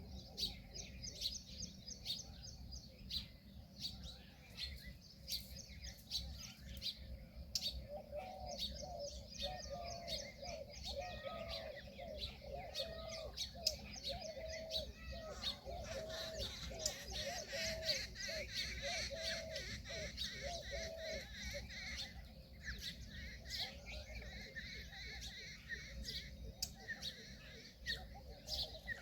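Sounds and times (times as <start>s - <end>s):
small birds chirping: 0.0s - 29.0s
lower repeated bird call: 3.9s - 29.0s.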